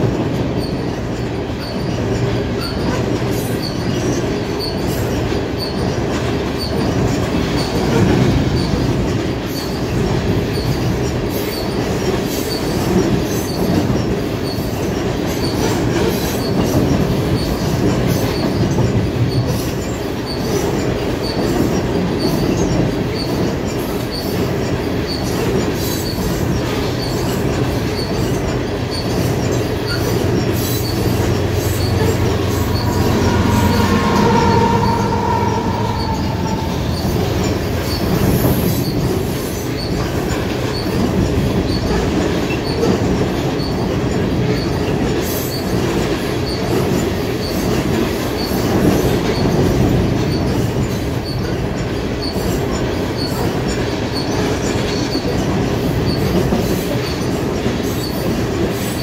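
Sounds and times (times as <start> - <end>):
wheel squeal: 0.4 - 59.0.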